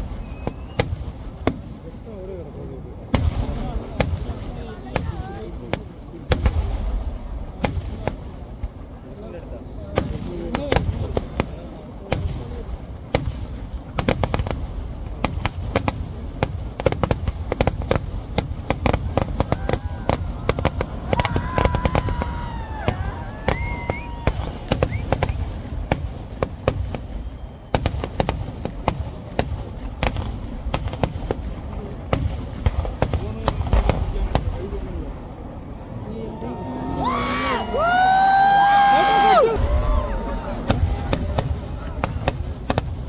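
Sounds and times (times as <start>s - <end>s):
fireworks bangs and crackles: 0.0s - 36.0s, 37.1s - 43.0s.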